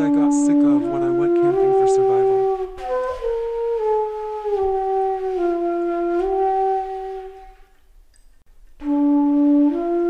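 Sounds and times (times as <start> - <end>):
slow flute-like melody: 0.0 - 7.9, 8.7 - 10.0.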